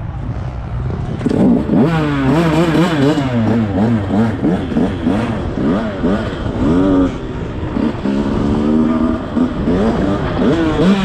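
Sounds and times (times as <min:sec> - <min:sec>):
dirt bike engine revving: 0:00.9 - 0:11.0.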